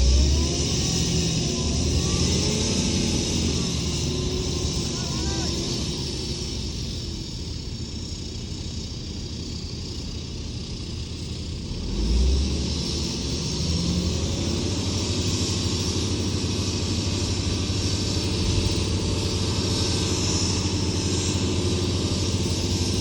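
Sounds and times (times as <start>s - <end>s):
diesel machinery rumbling: 0.0s - 23.0s.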